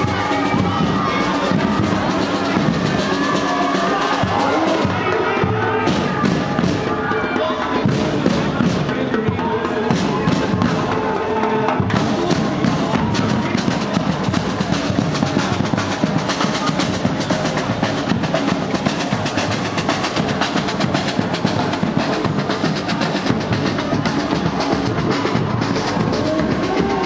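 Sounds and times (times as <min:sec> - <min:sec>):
drum band drumming: 0:00.0 - 0:27.0.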